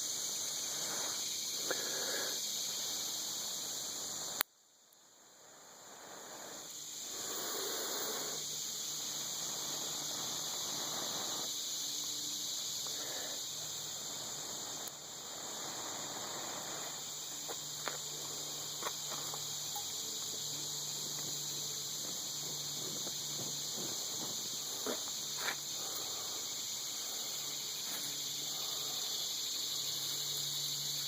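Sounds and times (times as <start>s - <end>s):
high insect chorus: 0.0s - 31.0s.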